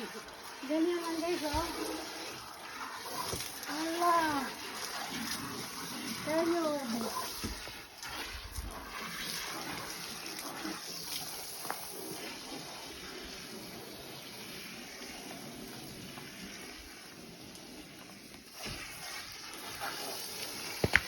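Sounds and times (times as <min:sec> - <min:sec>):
water running: 0:00.0 - 0:21.0.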